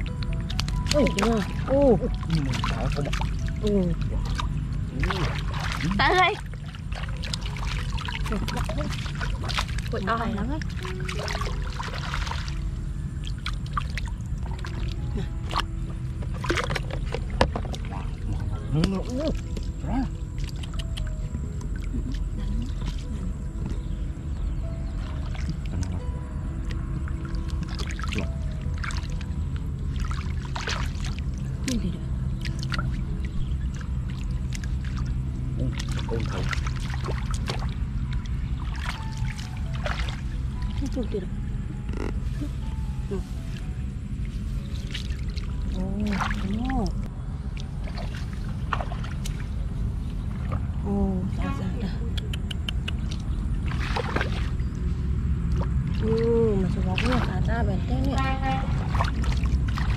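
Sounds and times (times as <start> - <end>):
low rumble: 0.0 - 59.9
steady low hum: 0.0 - 59.9
water sloshing and splashing: 0.0 - 59.9.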